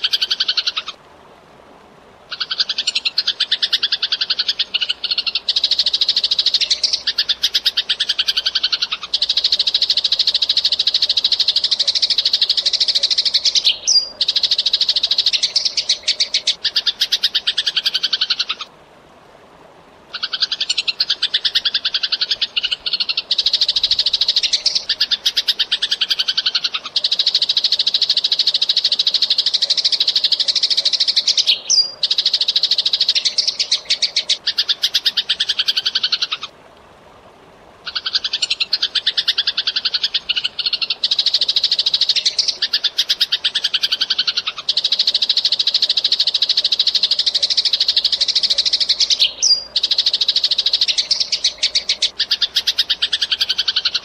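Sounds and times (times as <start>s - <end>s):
sparrows chirping: 2.3s - 18.6s, 20.2s - 36.4s, 38.0s - 54.0s.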